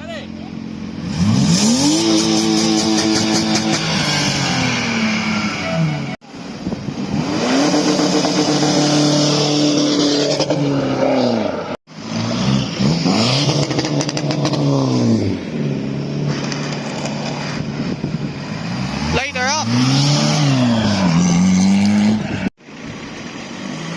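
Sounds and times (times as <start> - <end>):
car engine revving: 0.8 - 6.2, 6.9 - 23.9.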